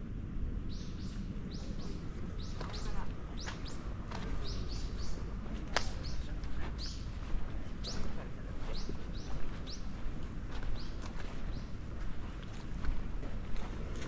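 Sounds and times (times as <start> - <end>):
low steady rumble: 0.0 - 14.0
small birds chirping: 0.6 - 14.0.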